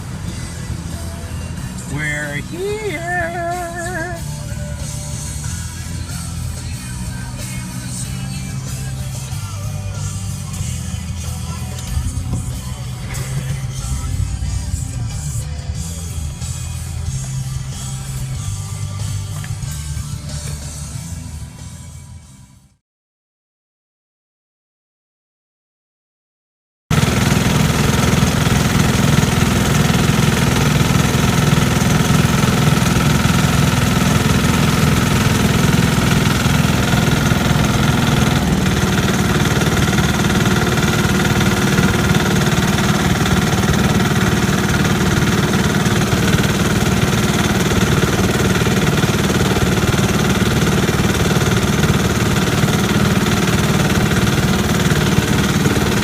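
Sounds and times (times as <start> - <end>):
garden tractor engine running: 0.0 - 22.2, 26.9 - 56.0.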